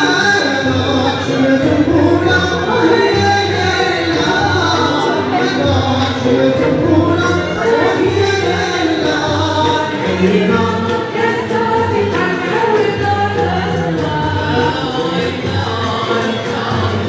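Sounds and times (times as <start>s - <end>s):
men singing together: 0.0s - 17.0s
oud: 0.0s - 17.0s
violins: 0.0s - 17.0s.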